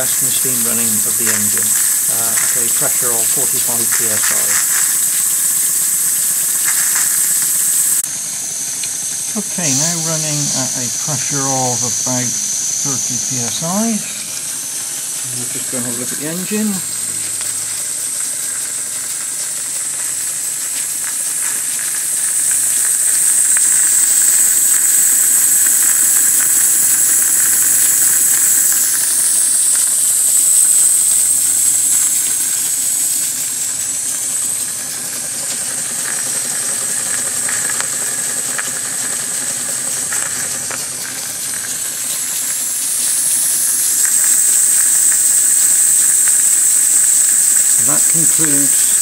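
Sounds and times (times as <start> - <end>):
steam engine hissing: 0.0 - 49.0.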